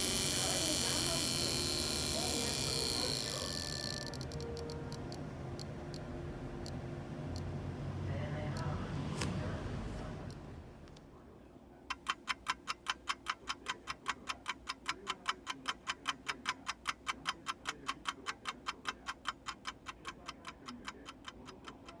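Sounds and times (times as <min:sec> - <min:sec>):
watch ticking: 0:00.0 - 0:08.8, 0:11.9 - 0:22.0.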